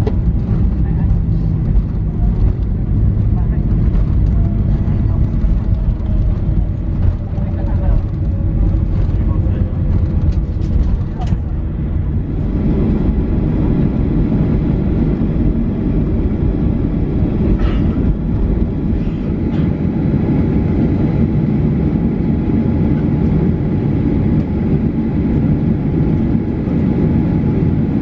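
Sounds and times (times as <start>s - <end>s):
aircraft engines low rumble: 0.0s - 28.0s.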